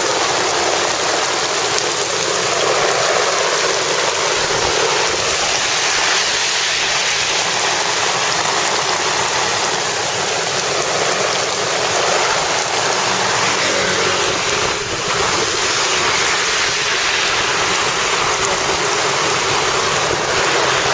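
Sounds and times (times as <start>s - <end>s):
runoff water pouring: 0.0s - 20.9s
torrential rain on road: 0.0s - 20.9s.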